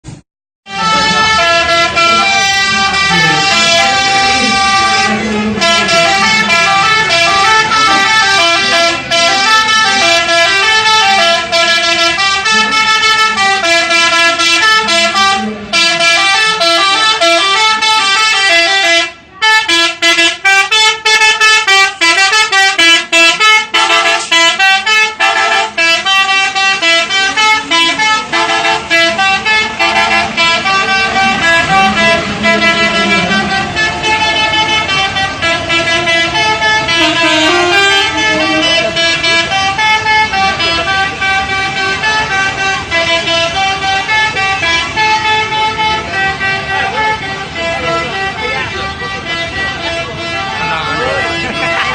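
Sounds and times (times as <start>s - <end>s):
bus air horn playing a melody: 0.1s - 51.9s.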